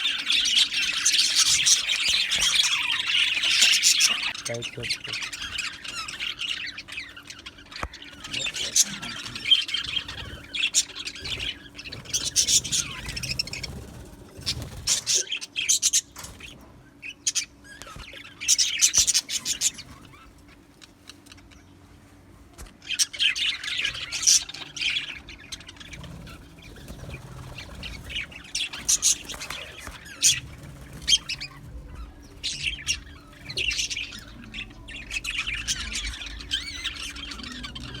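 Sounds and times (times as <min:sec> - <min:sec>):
budgerigars chattering and chirping: 0:00.0 - 0:21.8, 0:22.7 - 0:38.0.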